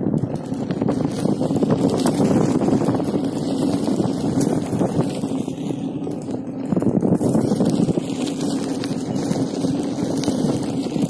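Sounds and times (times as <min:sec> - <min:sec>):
wind buffeting microphone: 0:00.0 - 0:11.0
tyre rolling on dirt path: 0:00.1 - 0:11.0.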